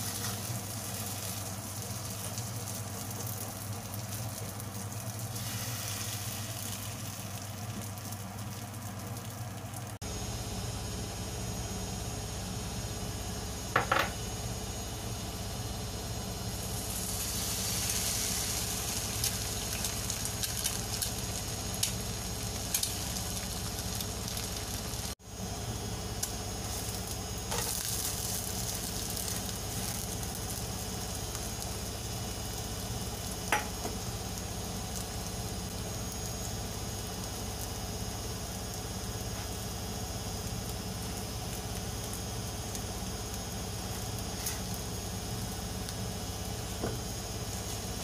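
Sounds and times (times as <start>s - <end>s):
pancake sizzling in oil: 0.0s - 10.0s, 16.0s - 48.0s.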